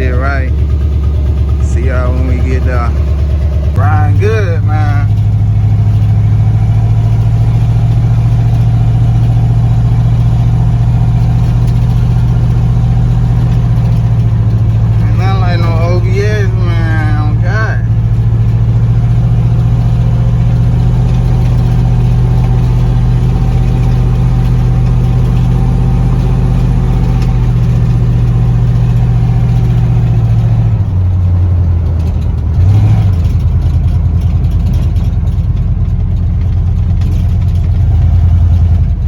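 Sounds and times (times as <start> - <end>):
pickup truck engine droning: 0.0 - 39.0.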